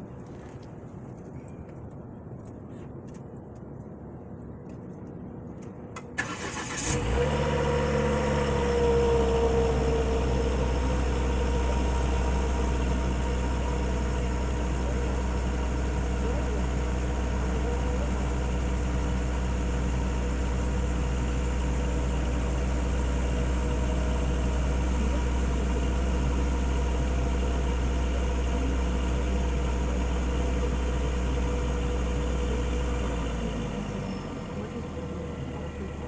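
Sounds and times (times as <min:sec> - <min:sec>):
faint turbo whine: 0:04.9 - 0:36.0
car engine idling: 0:06.2 - 0:36.0.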